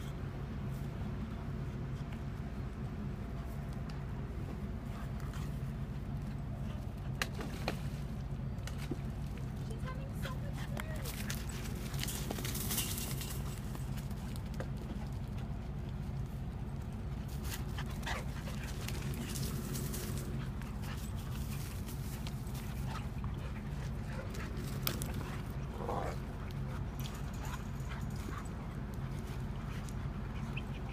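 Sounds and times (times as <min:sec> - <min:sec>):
steady low hum: 0:00.0 - 0:30.9
dogs scuffling: 0:03.3 - 0:30.9.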